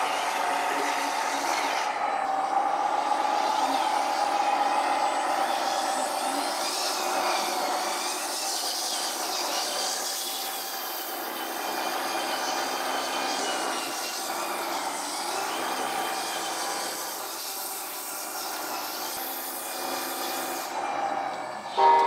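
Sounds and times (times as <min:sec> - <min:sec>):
toy tractor motor whining: 0:00.0 - 0:22.0.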